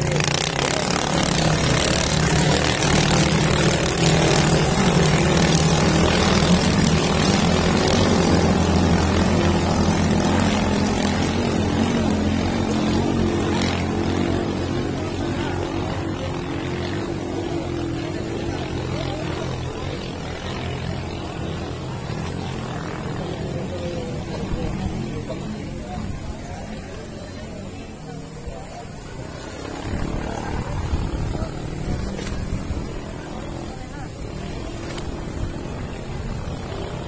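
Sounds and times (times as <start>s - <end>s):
boat engines droning: 0.0s - 37.0s.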